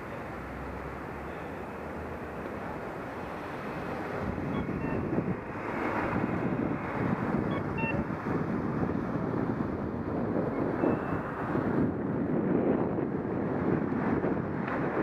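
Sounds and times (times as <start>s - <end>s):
vehicle noise: 0.0s - 15.0s
wind buffeting microphone: 2.2s - 15.0s.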